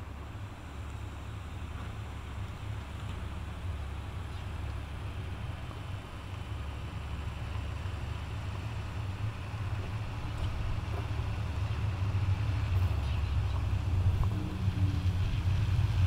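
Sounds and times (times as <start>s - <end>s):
bus diesel engine approaching: 0.0s - 16.0s.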